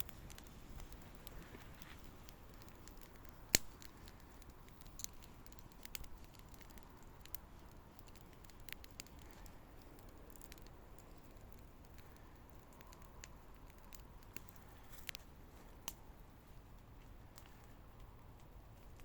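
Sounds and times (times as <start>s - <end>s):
faint steady hiss: 0.0s - 19.0s
wood fire crackling and popping: 0.0s - 19.0s.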